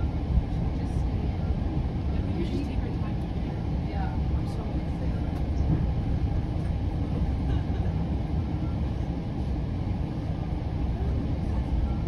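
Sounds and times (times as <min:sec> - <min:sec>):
train coach rumbling on track: 0:00.0 - 0:12.0.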